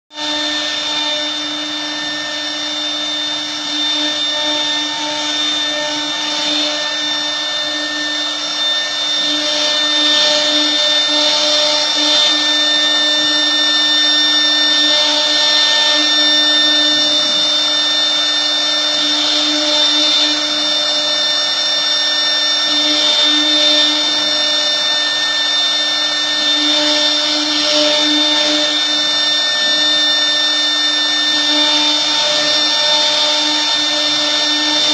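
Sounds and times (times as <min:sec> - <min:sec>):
cnc router spindle whine: 0:00.1 - 0:34.9
tool cutting material: 0:00.1 - 0:34.9.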